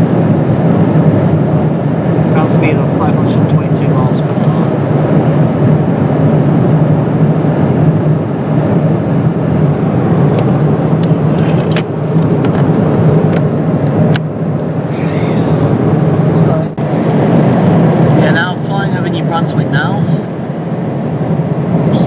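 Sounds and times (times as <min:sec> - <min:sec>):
airplane cabin roar: 0:00.0 - 0:22.0.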